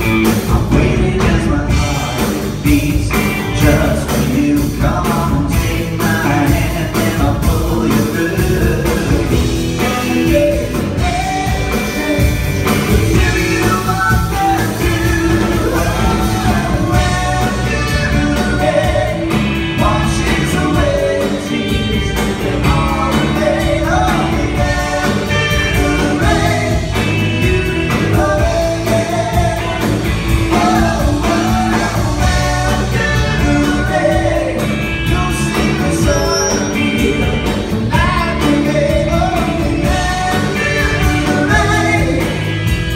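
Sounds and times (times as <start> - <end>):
man singing into microphone: 0.0 - 42.4
live rock band playing: 0.0 - 42.9.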